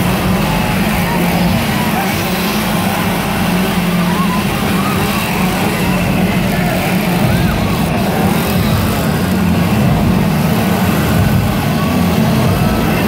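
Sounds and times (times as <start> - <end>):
chainsaw engines running: 0.0 - 13.0.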